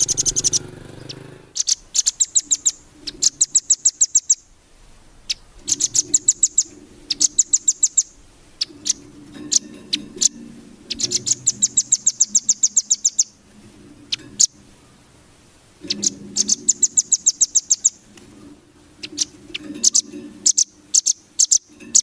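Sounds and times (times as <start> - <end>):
songbird singing fast trills: 0.0 - 4.6, 5.2 - 13.4, 15.8 - 18.1, 19.0 - 22.0.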